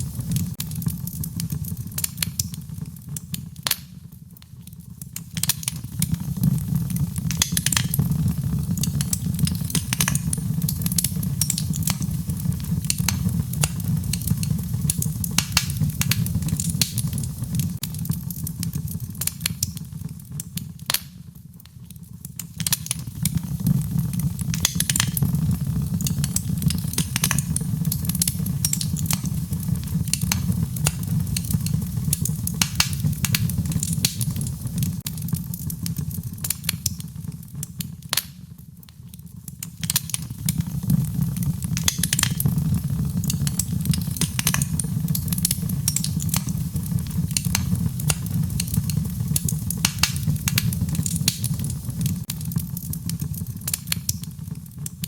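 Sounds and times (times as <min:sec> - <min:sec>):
fire popping and snapping: 0:00.0 - 0:55.0
low rumble of flames: 0:00.0 - 0:55.0
wood fire crackling: 0:00.0 - 0:55.0.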